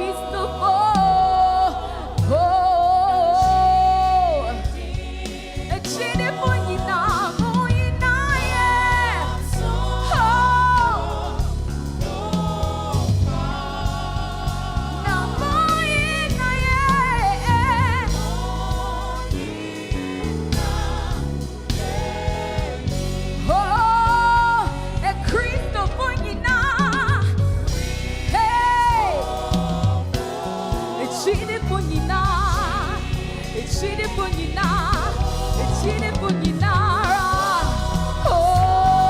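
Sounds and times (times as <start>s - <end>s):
band with bass and drums: 0.0s - 39.0s
choir singing gospel song: 0.0s - 39.0s.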